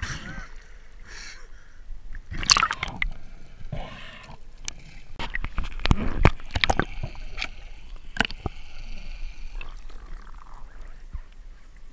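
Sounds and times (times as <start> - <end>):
water splashing and gurgling: 2.2 - 11.9.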